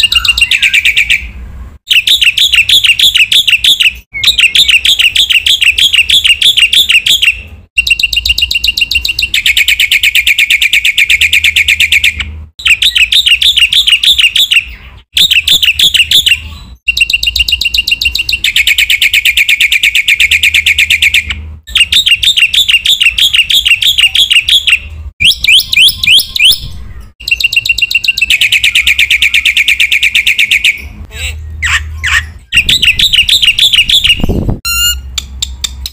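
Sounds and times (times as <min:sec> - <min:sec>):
bird singing chattering notes: 0:00.0 - 0:35.0.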